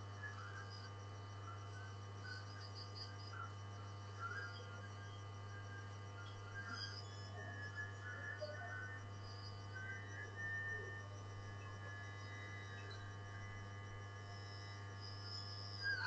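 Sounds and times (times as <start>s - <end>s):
faint thin whining tones: 0.0s - 16.0s
low electrical hum: 0.0s - 16.0s.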